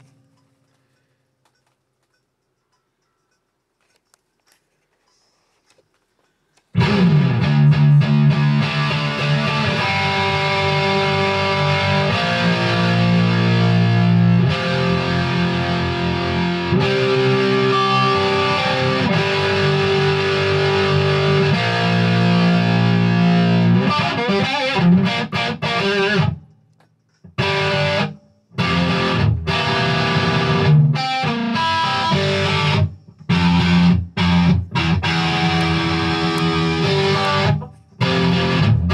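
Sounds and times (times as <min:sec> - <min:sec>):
distorted electric guitar lead: 0:06.8 - 0:26.4, 0:27.3 - 0:38.9.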